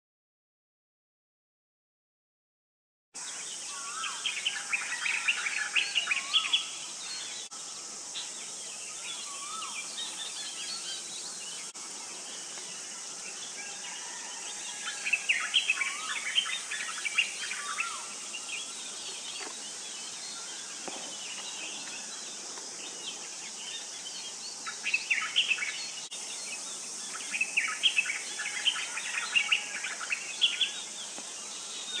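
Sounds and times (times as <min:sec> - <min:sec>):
steady high hiss: 0:03.2 - 0:32.0.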